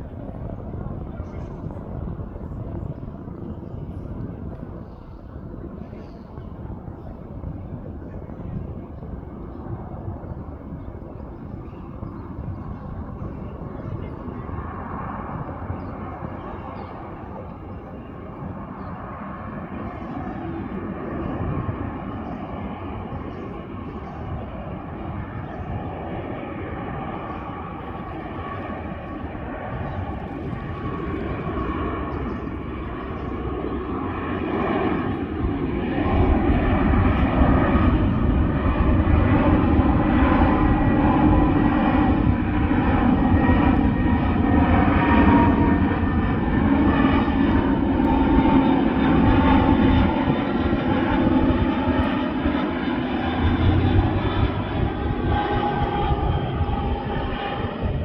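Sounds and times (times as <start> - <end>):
airplane engines whining: 0.0 - 58.0.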